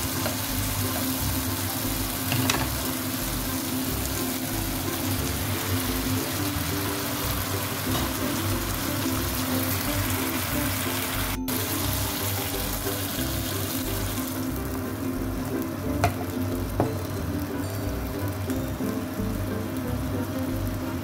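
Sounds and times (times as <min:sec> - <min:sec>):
background music: 0:00.0 - 0:21.0
fish sizzling in a wok: 0:00.0 - 0:21.0.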